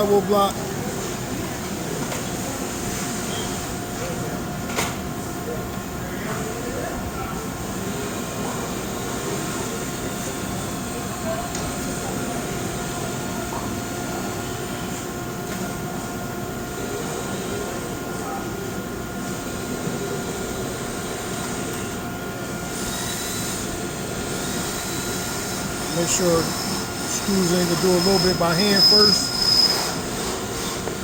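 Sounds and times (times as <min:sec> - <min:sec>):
machinery droning hum: 0:00.0 - 0:31.0.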